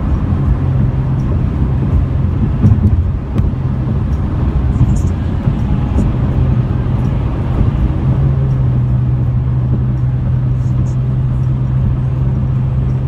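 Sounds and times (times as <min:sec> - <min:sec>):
car road and tyre noise: 0:00.0 - 0:13.0.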